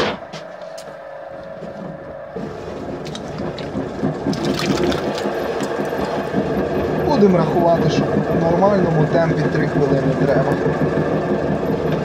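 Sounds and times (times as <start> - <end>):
potter's wheel humming: 0.0 - 12.0.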